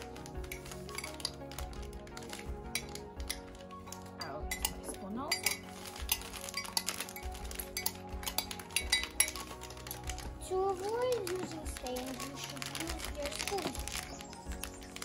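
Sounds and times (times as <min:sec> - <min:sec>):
background music: 0:00.0 - 0:15.0
spoon clinking on plastic cups: 0:00.0 - 0:15.0.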